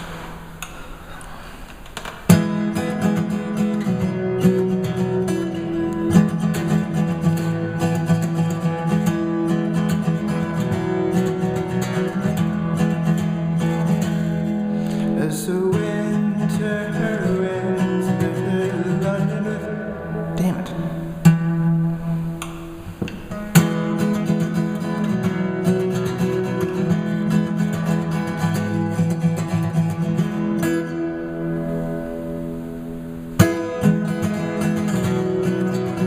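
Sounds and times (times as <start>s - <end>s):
strummed acoustic guitar music: 0.0s - 36.0s.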